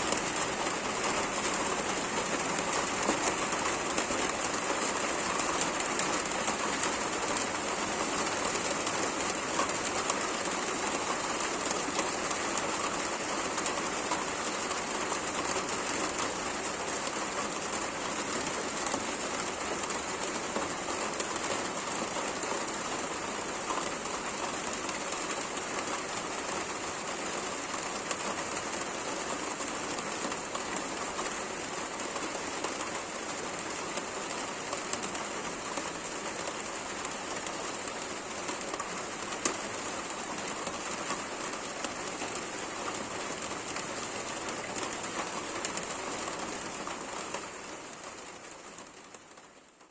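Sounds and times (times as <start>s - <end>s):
steady rain patter: 0.0s - 49.9s.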